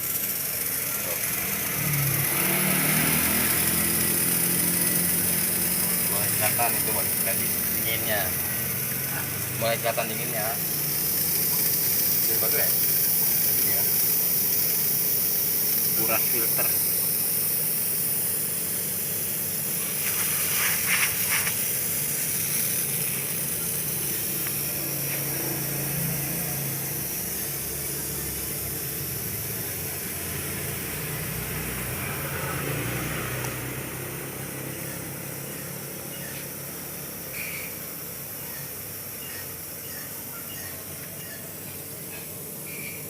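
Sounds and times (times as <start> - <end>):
refrigerant gas hissing: 0.0 - 43.0.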